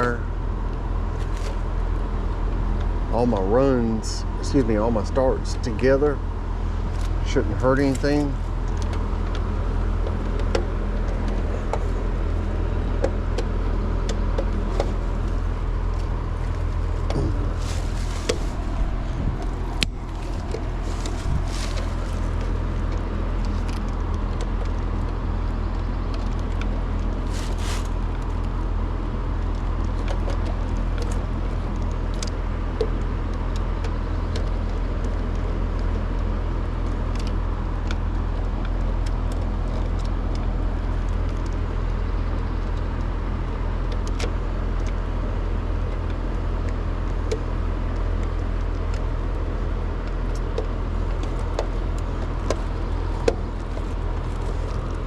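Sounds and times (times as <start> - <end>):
air conditioner unit humming: 0.0 - 55.0.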